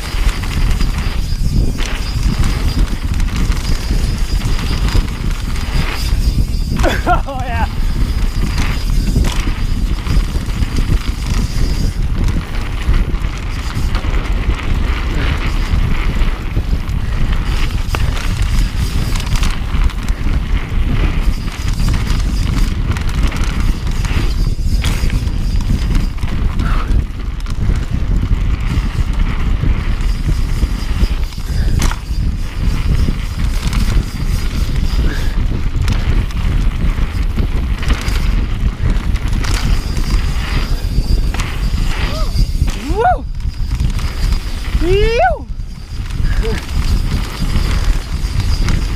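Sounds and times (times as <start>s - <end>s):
tyres rumbling on dirt: 0.0s - 43.0s
bike rattles and ticks: 0.0s - 48.9s
wind buffeting microphone: 0.0s - 48.9s.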